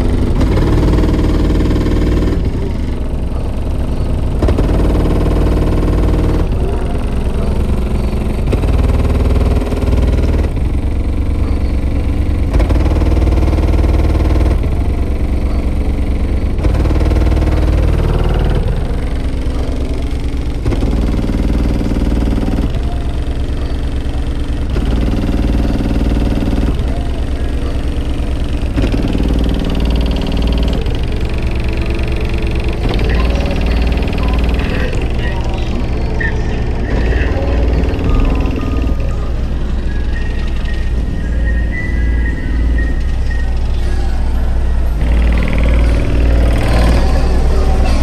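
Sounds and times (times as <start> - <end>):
heavy bass music from subwoofer: 0.0 - 23.8, 28.0 - 48.0.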